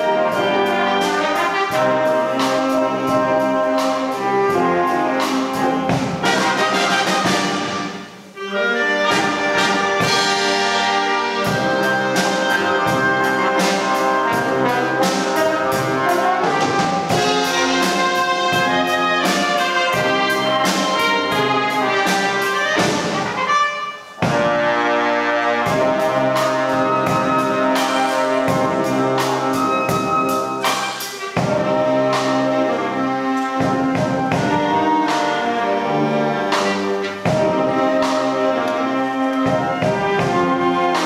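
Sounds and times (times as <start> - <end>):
drum kit beat: 0.0 - 8.4, 9.0 - 41.0
wind band playing: 0.0 - 41.0.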